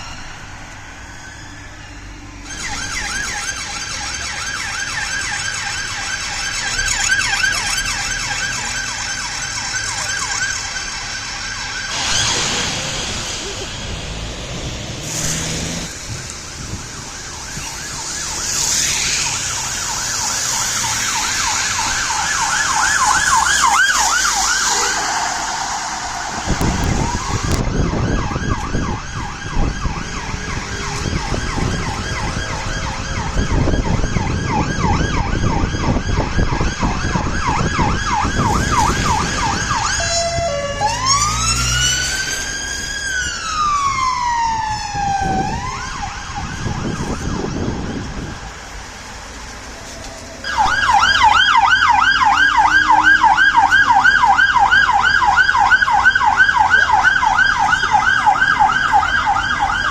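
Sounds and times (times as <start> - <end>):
police car siren: 0.0 - 59.9
traffic noise: 0.0 - 59.9.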